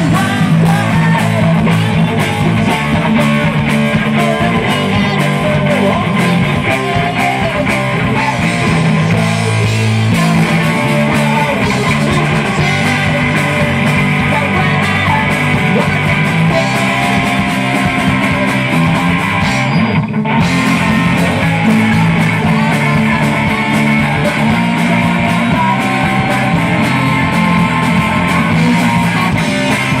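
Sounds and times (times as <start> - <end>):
electric guitar: 0.0 - 30.0
rock band playing live: 0.0 - 30.0.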